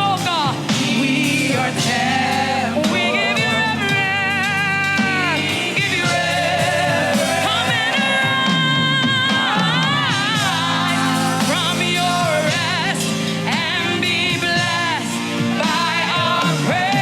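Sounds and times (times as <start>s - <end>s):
band backing: 0.0s - 17.0s
singer with vibrato: 0.0s - 17.0s.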